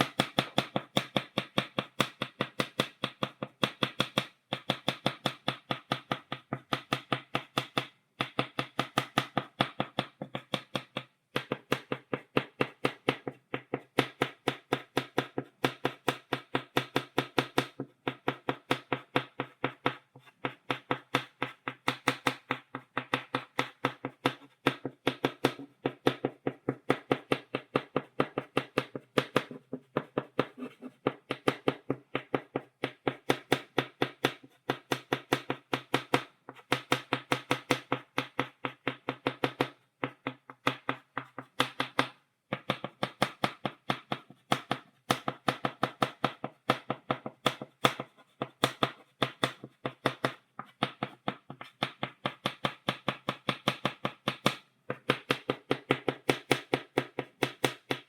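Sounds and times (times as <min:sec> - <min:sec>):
chalk tapping on blackboard: 0:00.0 - 0:58.0.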